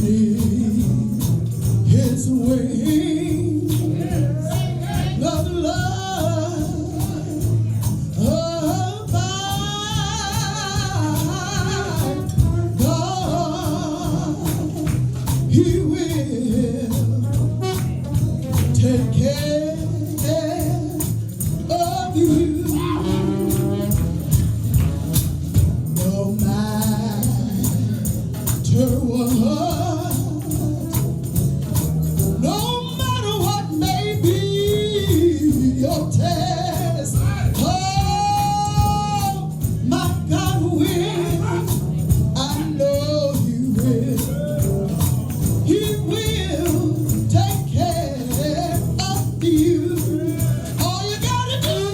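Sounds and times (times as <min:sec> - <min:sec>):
person singing gospel: 0:00.0 - 0:24.6, 0:25.9 - 0:51.9
band playing: 0:00.0 - 0:51.9
tambourine shaking: 0:00.0 - 0:51.9.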